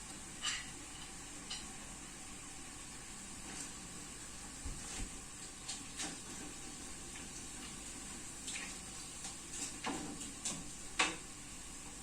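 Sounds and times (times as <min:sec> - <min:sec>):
faint steady hiss: 0:00.0 - 0:12.0
liquid bubbling in a pot: 0:00.0 - 0:12.0.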